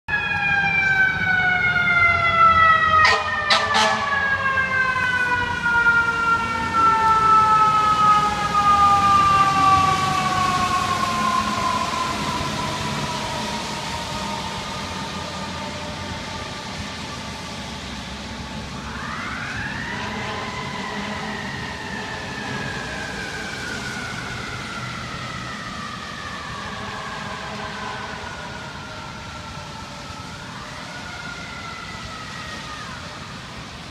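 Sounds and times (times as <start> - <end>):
fire engine mechanical siren wailing: 0.1 - 33.9
street noise: 0.1 - 33.9.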